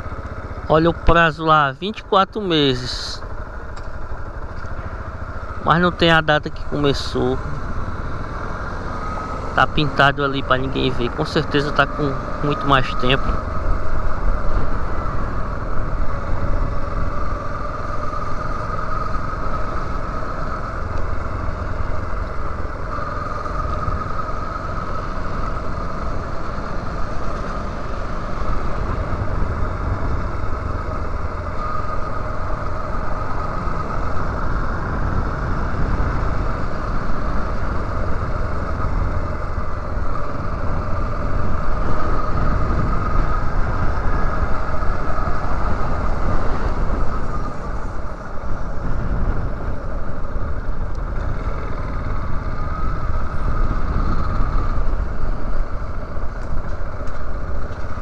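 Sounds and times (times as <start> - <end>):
faint motorcycle engine tone: 0.0 - 58.0
wind rumble on microphone: 3.7 - 58.0.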